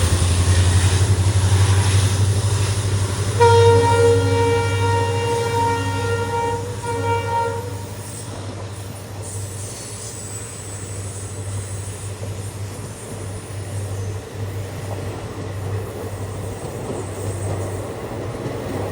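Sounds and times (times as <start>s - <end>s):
passenger train rumbling past: 0.0s - 18.9s.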